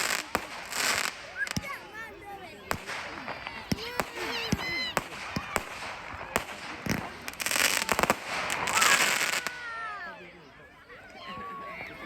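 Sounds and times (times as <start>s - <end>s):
fireworks bangs: 0.0s - 9.8s
fireworks crackling: 0.0s - 10.0s.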